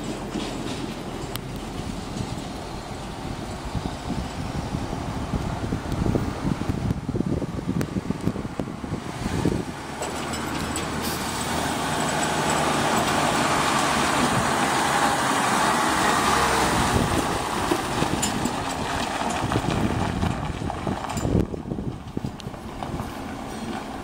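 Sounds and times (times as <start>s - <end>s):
truck driving past over gravel: 0.0s - 24.0s.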